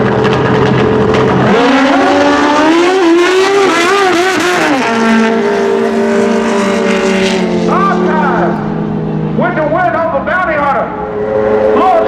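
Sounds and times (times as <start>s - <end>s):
motorcycles revving and accelerating: 0.0s - 9.9s, 10.9s - 12.0s.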